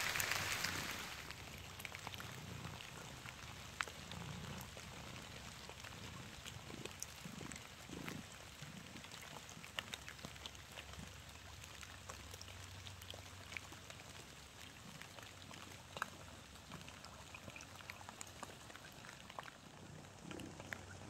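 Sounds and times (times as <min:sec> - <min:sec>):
soft ticks and crackles: 0:00.0 - 0:21.0.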